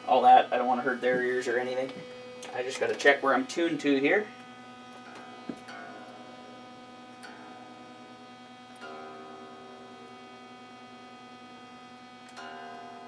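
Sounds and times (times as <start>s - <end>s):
amp hum: 0.0s - 13.0s
electric guitar notes ringing: 0.0s - 13.0s.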